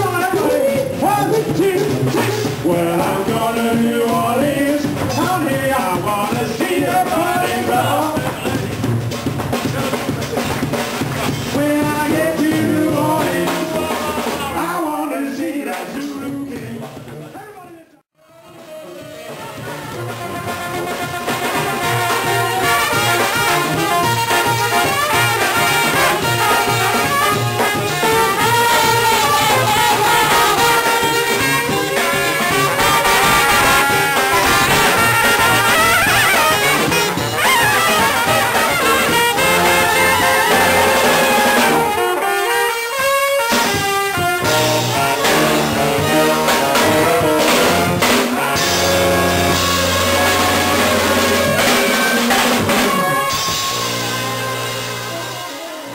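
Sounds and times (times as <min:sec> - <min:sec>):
brass band playing: 0:00.0 - 0:17.2, 0:18.1 - 0:55.9
drums: 0:00.0 - 0:55.9.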